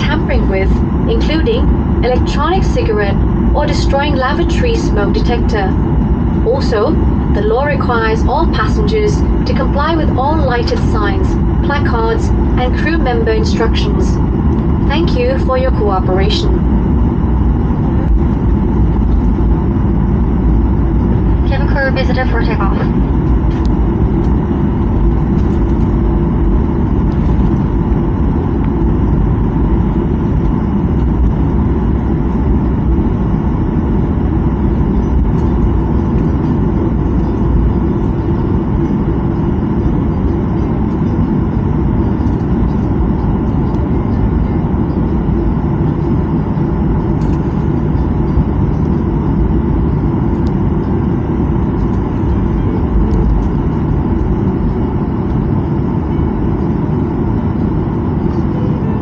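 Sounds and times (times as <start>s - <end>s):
faint jet whine: 0.0s - 59.0s
jet engine rumble: 0.0s - 59.0s.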